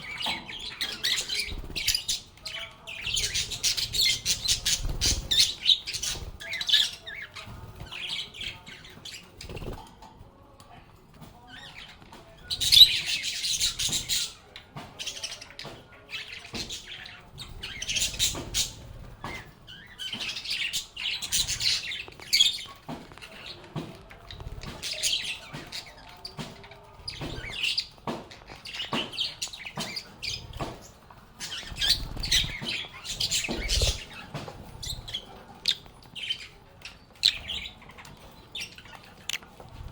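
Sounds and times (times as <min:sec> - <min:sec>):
lovebirds chirping: 0:00.0 - 0:09.8, 0:11.4 - 0:39.9.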